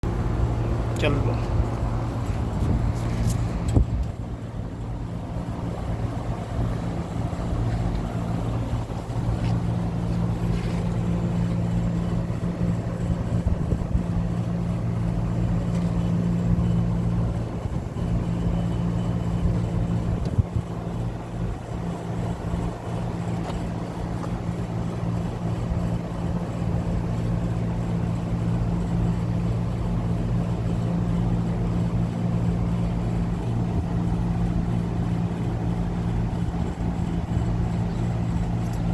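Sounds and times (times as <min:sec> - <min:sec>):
air conditioning compressor hum: 0:00.0 - 0:38.9.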